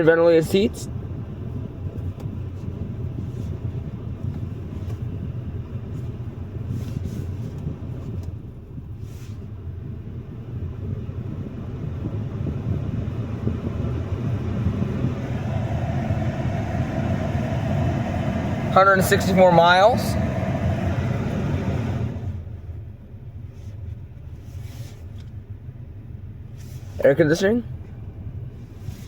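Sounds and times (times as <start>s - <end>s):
car engine idling: 0.0s - 29.0s
climate control fan: 0.0s - 29.0s.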